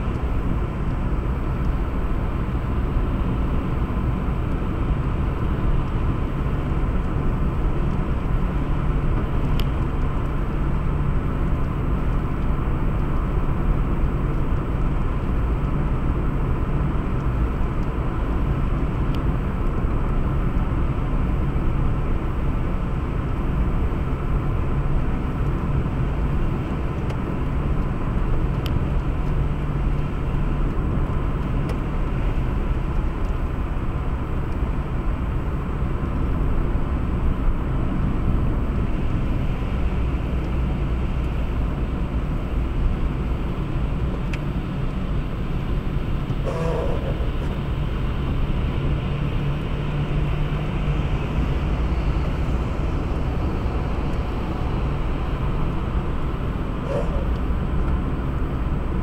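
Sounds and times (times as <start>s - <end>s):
car engine: 0.0s - 59.0s
tyre road noise: 0.0s - 59.0s.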